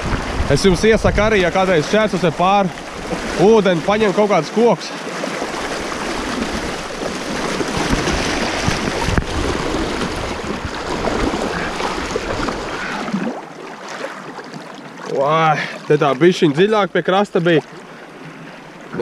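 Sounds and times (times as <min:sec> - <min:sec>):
person wading through water: 0:01.1 - 0:19.0.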